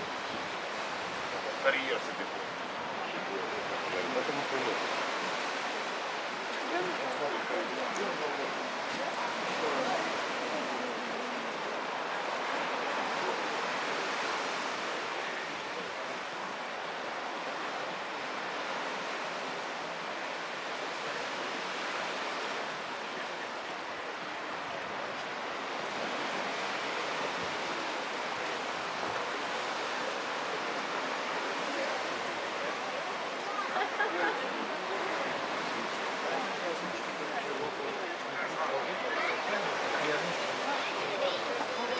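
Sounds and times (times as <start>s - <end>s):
surf washing onto shore: 0.0s - 41.9s.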